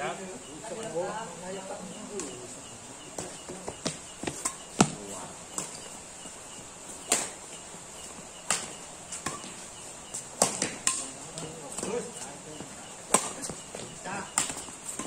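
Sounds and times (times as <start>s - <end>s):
rackets hitting shuttlecock: 1.9s - 15.0s.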